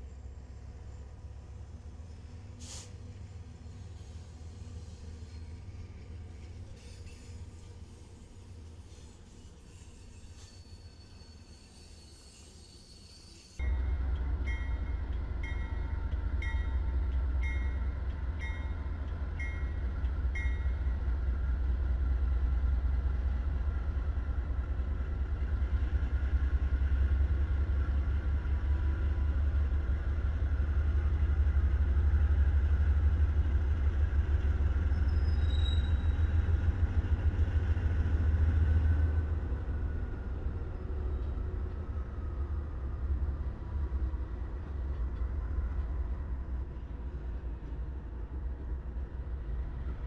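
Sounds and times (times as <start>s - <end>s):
diesel locomotive engine rumble: 0.0s - 50.0s.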